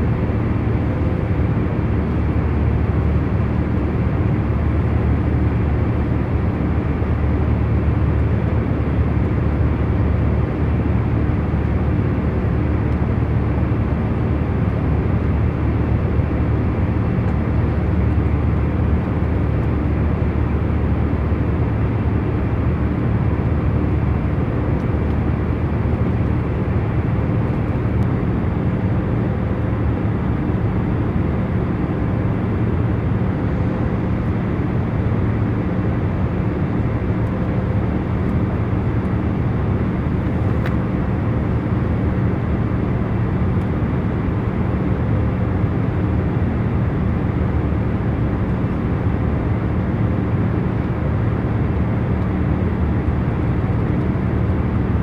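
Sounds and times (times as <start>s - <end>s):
faint constant hum: 0.0s - 55.0s
jet airliner cabin drone: 0.0s - 55.0s.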